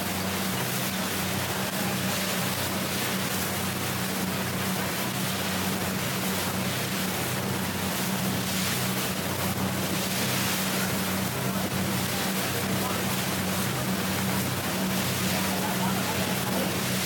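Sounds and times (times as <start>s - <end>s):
boat engine drone: 0.0s - 17.0s
rush of wind and water: 0.0s - 17.0s.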